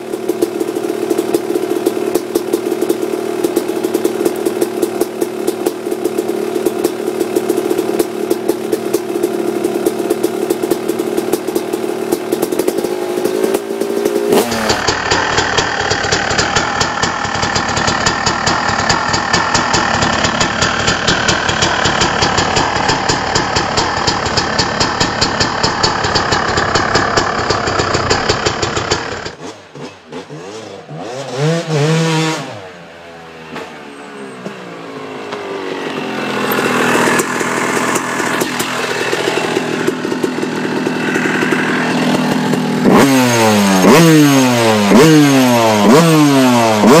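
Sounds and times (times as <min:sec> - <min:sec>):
dirt bike engine revving: 0:00.0 - 0:32.9, 0:34.8 - 0:47.0.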